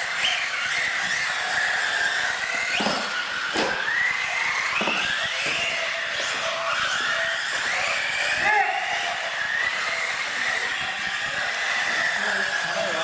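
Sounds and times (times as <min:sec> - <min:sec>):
toy truck motors whining: 0:00.0 - 0:13.0.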